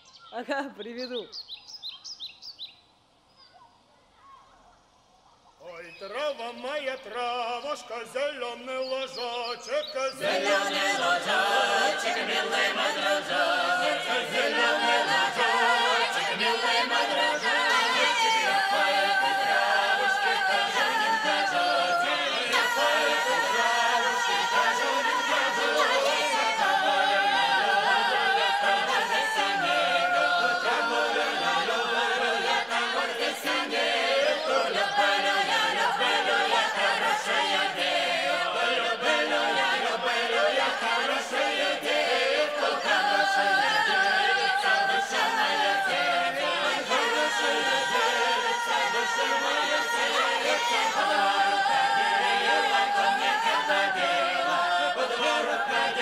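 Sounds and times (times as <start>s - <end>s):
unaccompanied folk singing group: 5.6s - 56.0s.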